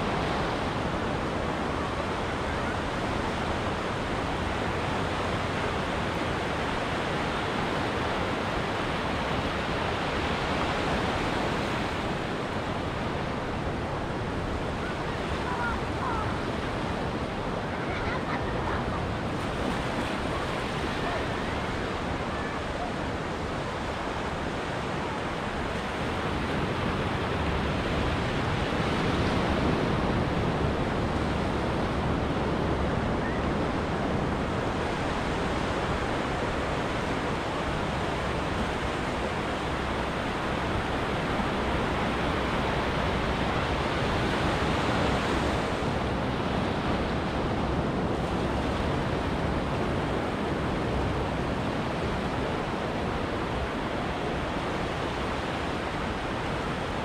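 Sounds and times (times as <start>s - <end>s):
ocean waves on beach: 0.0s - 57.0s.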